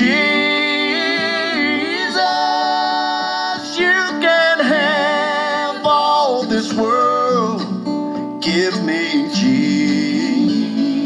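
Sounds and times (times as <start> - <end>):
voices singing gospel: 0.0 - 7.8, 8.4 - 11.0.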